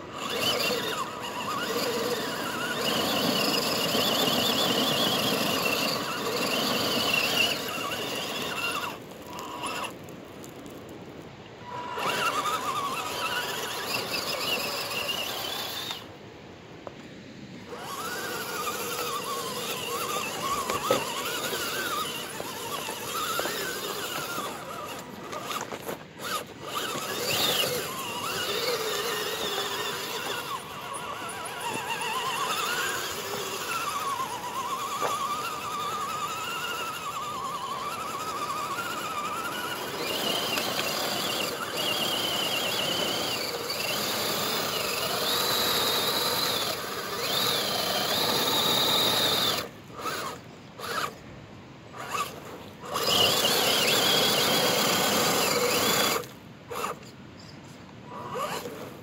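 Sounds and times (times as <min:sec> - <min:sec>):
electric motor and gears whining: 0:00.0 - 0:11.0, 0:11.6 - 0:16.2, 0:17.6 - 0:51.3, 0:51.9 - 0:57.5, 0:58.1 - 0:59.0.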